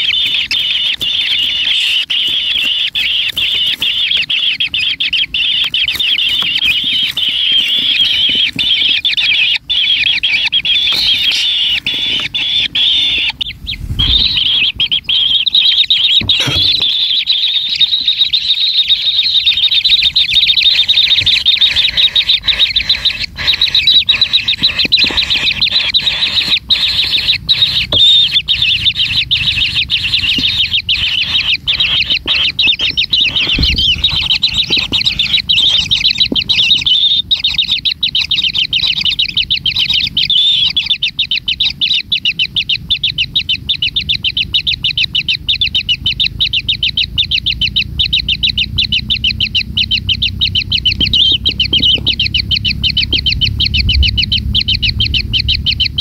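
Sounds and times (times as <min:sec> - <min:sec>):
nestlings begging rasping chorus: 0:00.0 - 0:56.0.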